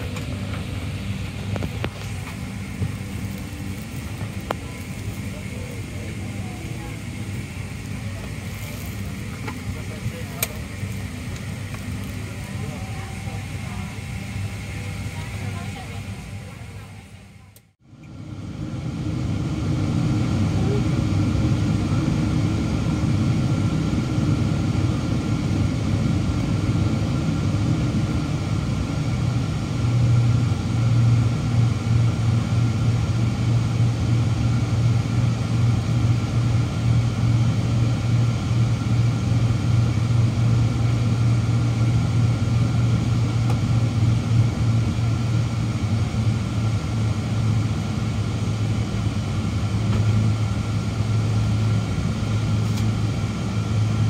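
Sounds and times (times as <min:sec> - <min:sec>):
deep steady hum: 0:00.0 - 0:54.0
jet engine rumble in cabin: 0:00.0 - 0:54.0.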